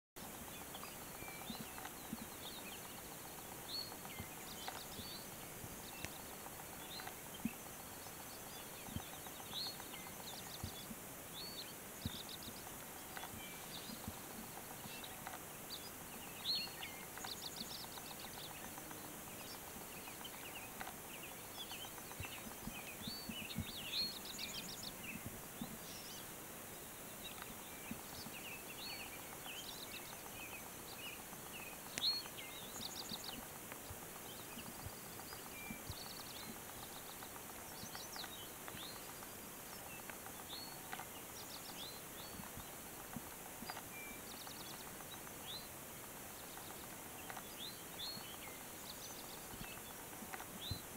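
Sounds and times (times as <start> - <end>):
faint steady hiss: 0.2 - 50.9
songbirds chirping and trilling: 0.2 - 50.9.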